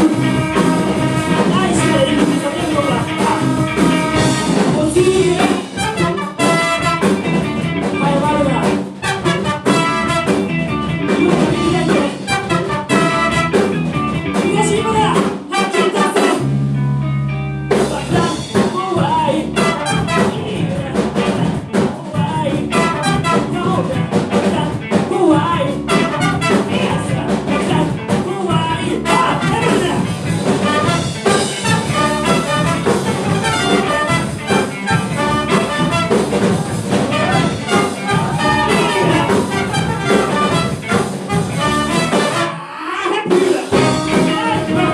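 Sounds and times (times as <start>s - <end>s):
live funk band playing: 0.0s - 44.9s.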